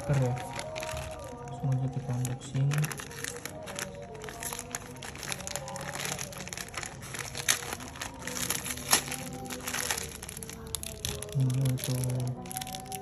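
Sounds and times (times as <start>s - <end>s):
plastic bag tearing and crinkling: 0.0s - 13.0s.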